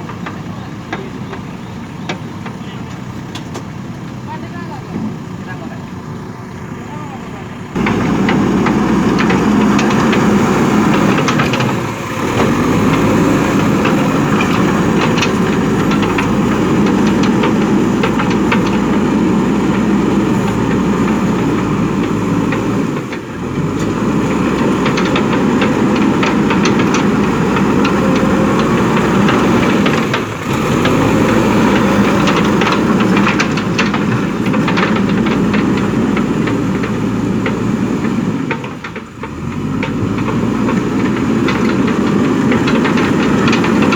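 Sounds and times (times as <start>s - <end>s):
diesel engine running: 0.0s - 43.9s
metal clanks: 7.8s - 43.9s.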